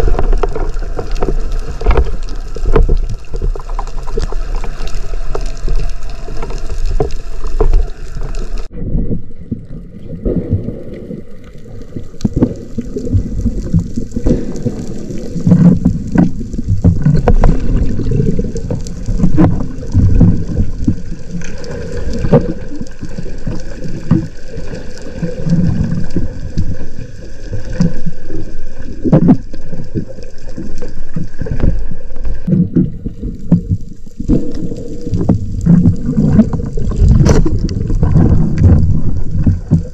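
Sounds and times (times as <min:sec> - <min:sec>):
muffled underwater rumbling: 0:00.0 - 0:39.9.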